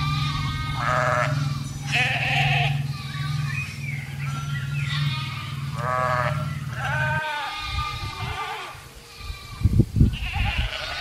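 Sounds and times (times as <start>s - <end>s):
low steady hum: 0.0s - 11.0s
sheep and goats bleating: 0.0s - 11.0s.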